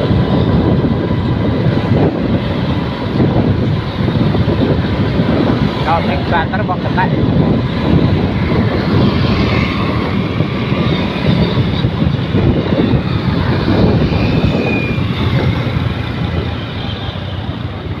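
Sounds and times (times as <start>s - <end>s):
motorcycle engine running: 0.0s - 18.0s
wind on microphone: 0.0s - 18.0s.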